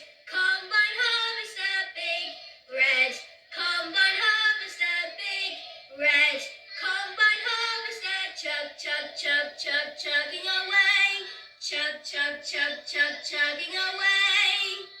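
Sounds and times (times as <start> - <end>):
woman and children singing: 0.0 - 15.0.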